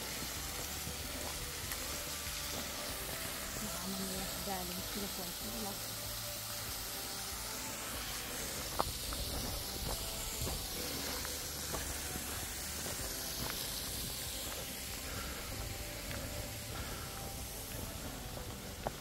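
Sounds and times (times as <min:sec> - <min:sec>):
footsteps: 0:00.0 - 0:05.8, 0:06.8 - 0:19.0
stream flowing: 0:00.0 - 0:19.0.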